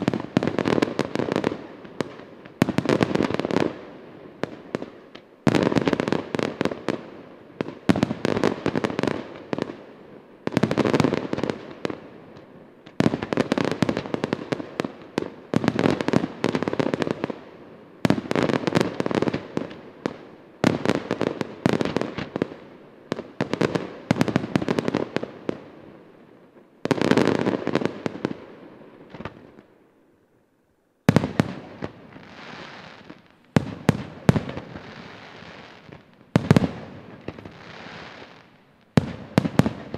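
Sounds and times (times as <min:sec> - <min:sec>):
firework crackle: 0:00.0 - 0:29.7, 0:31.1 - 0:39.9.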